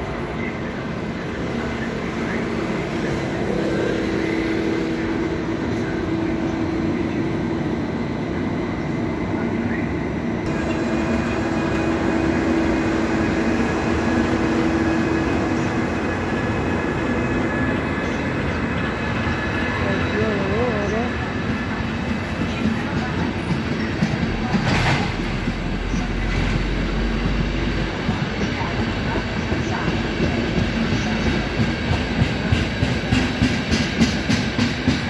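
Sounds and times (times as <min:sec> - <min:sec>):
passenger train rumble: 0:00.0 - 0:35.0.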